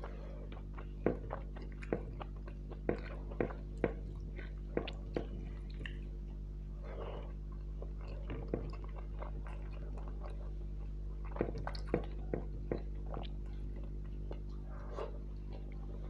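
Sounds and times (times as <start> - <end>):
chewing and lip-smacking: 0.0 - 16.0
low electrical hum: 0.0 - 16.0.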